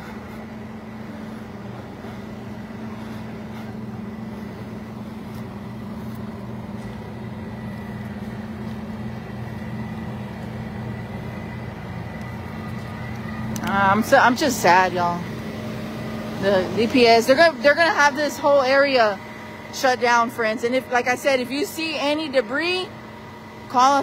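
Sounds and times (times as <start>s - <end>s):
vehicle engines idling: 0.0s - 24.0s.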